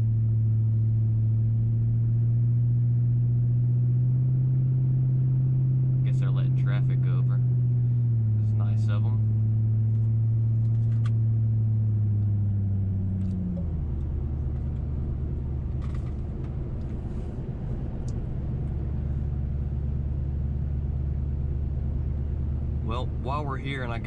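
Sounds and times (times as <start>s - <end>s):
car exhaust drone inside cabin: 0.0s - 24.0s.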